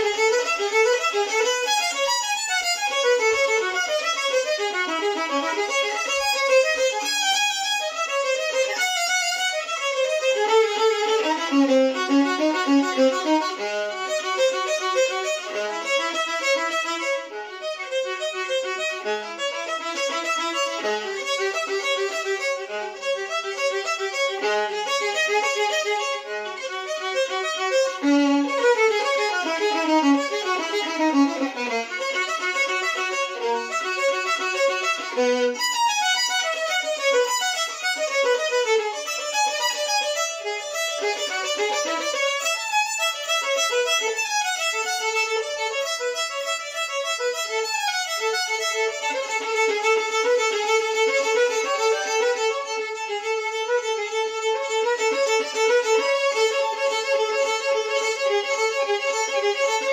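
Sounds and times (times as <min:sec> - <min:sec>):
solo violin melody: 0:00.0 - 0:59.9.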